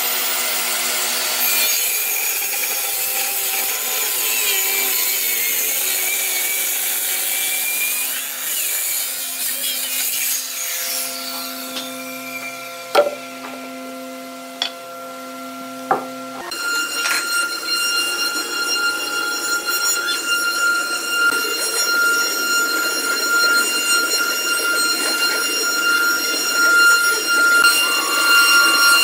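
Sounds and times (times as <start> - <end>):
router spindles whining: 0.0 - 29.0.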